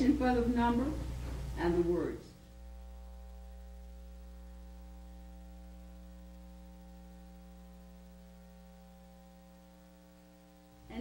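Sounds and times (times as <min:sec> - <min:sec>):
electrical mains hum: 0:00.0 - 0:11.0
faint hiss: 0:00.0 - 0:11.0.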